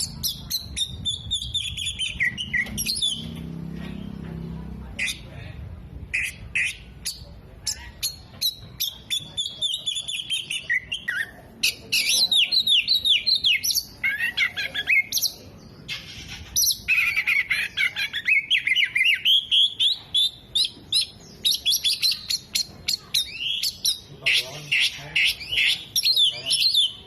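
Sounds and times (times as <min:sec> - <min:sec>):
songbird whistling and chattering: 0:00.0 - 0:03.3, 0:06.1 - 0:27.0.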